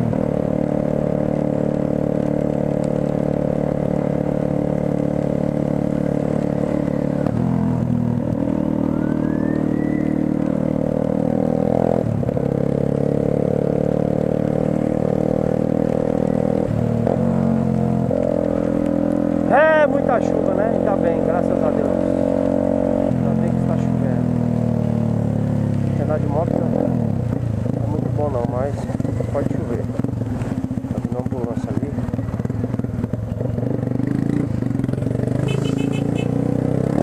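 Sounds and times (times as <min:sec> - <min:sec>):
motorcycle engine running: 0:00.0 - 0:37.0
tyres on wet road: 0:00.0 - 0:37.0.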